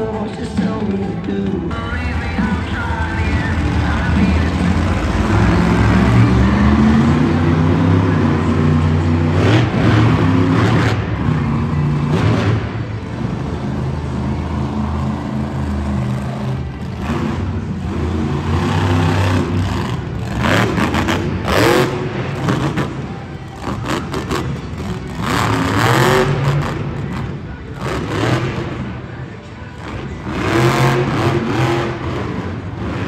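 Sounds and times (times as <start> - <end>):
truck engine revving hard: 2.0 - 29.1, 29.7 - 33.0.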